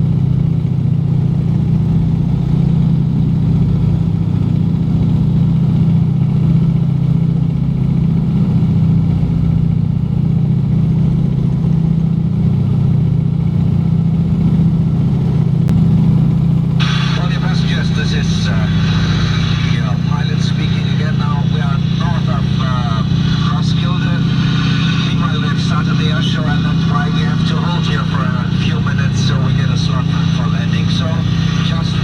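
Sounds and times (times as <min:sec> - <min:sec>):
aircraft engines droning: 0:00.4 - 0:32.0.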